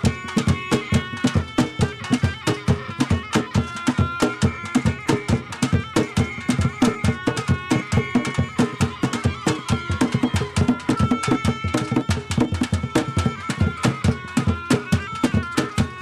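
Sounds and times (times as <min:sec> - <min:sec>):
drums beating fast rhythm: 0:00.0 - 0:16.0.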